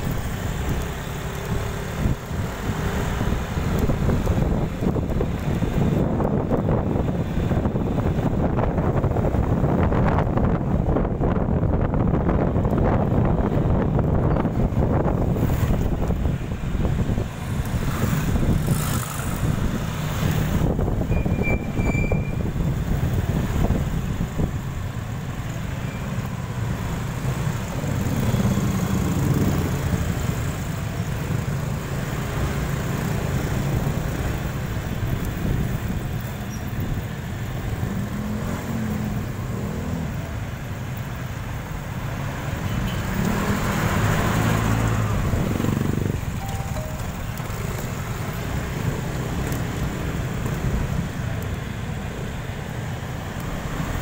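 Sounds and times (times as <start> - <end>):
street traffic: 0.0 - 54.0
wind rumbling on microphone: 0.0 - 54.0.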